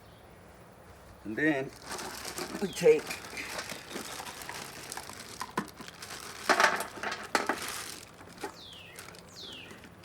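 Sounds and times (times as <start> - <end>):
plastic hoses crinkling: 1.6 - 10.0.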